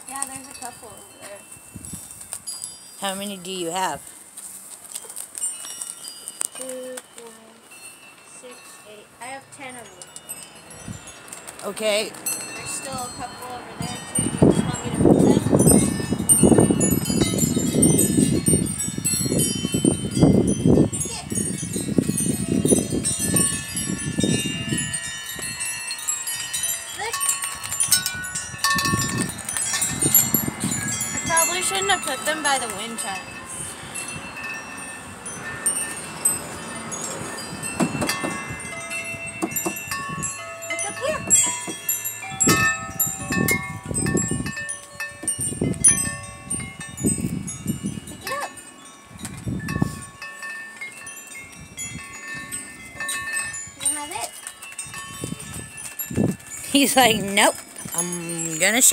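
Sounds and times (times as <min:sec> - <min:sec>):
wind chimes ringing: 0:00.0 - 0:58.9.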